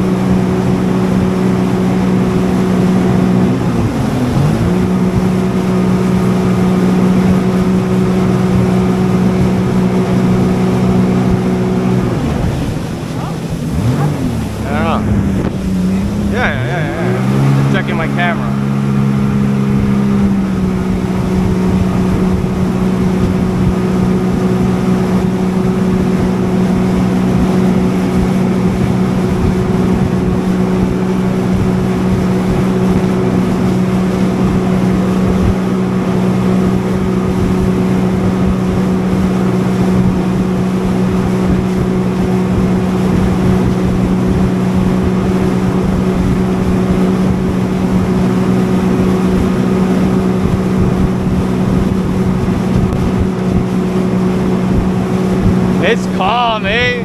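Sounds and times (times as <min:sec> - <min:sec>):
jet ski engine droning: 0:00.0 - 0:57.0
wind and water rushing: 0:00.0 - 0:57.0.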